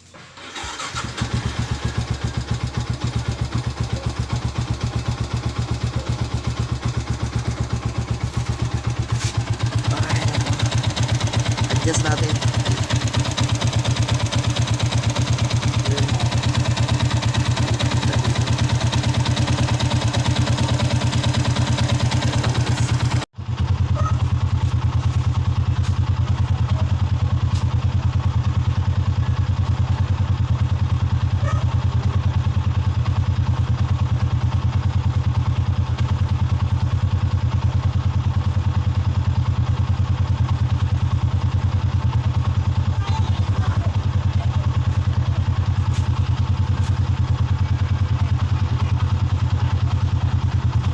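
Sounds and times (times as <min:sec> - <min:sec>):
motorcycle engine idling: 0:00.4 - 0:50.9.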